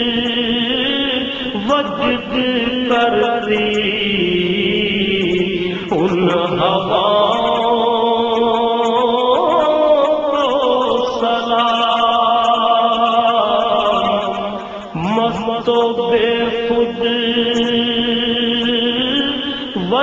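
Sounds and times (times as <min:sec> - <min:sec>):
man singing long held notes: 0:00.0 - 0:20.0.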